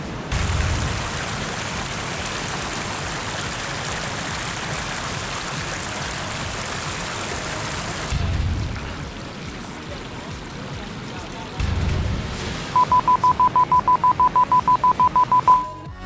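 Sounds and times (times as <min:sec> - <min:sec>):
rushing water: 0:00.0 - 0:15.7.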